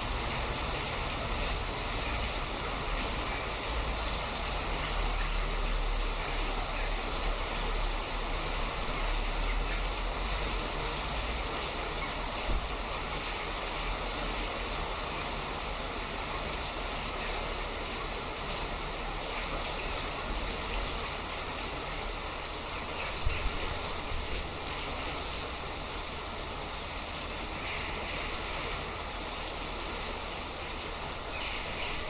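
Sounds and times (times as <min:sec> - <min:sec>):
rushing water: 0:00.0 - 0:32.0.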